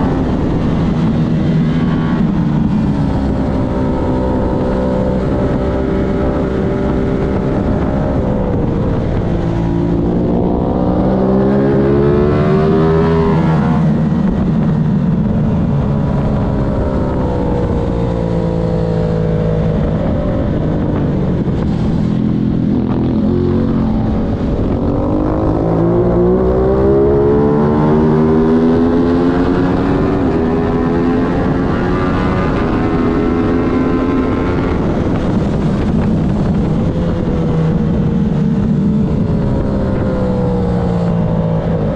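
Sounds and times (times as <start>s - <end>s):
racing motorcycle engine: 0.0s - 41.9s.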